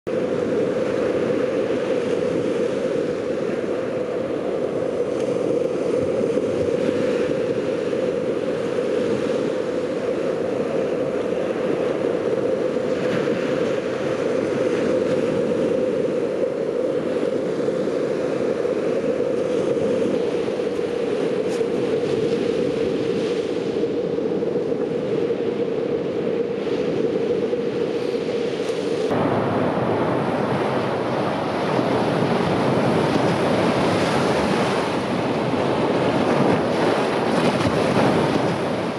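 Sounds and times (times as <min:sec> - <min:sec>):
wind on microphone: 0:00.0 - 0:38.9
surf washing onto beach: 0:00.1 - 0:38.9.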